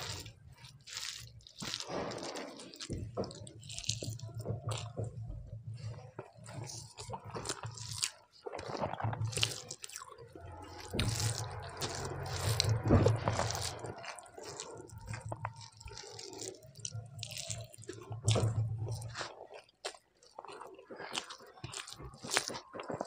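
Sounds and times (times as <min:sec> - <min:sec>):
rice mixed by hand squelching: 0:00.0 - 0:05.1, 0:05.8 - 0:23.0
lip-smacking chewing: 0:00.0 - 0:23.0.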